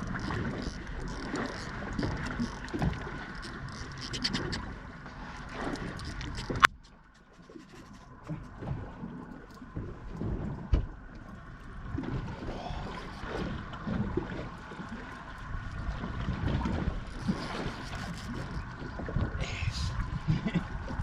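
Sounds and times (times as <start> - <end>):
water lapping against hull: 0.0 - 21.0.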